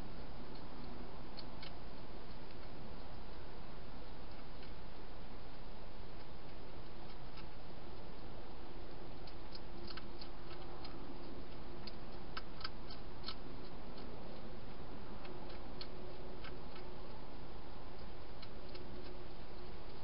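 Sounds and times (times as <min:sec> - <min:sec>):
hedgehog crunching dry food: 0:00.2 - 0:20.0.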